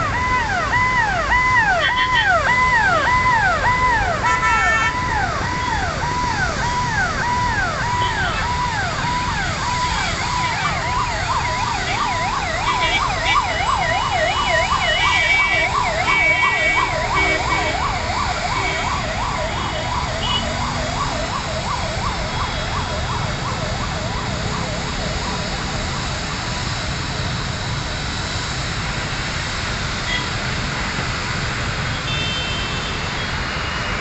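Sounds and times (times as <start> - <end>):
electronic sirens sweeping: 0.0 - 31.9.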